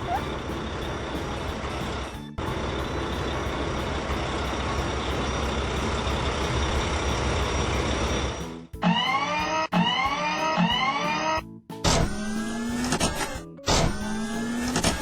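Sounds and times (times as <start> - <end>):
cartoon truck engine rumbling: 0.0 - 15.0.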